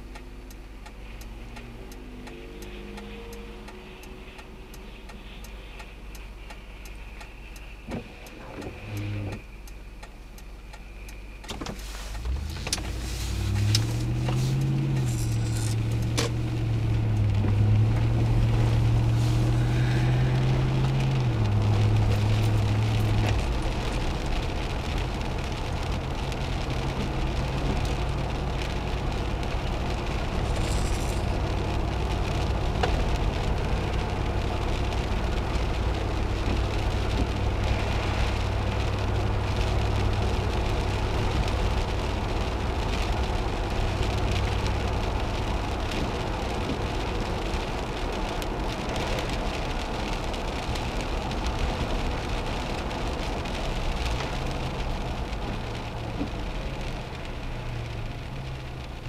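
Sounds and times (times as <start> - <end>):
rain: 0.0 - 59.0
vehicle engine hum: 0.0 - 59.0
tyres on wet pavement: 11.4 - 59.0.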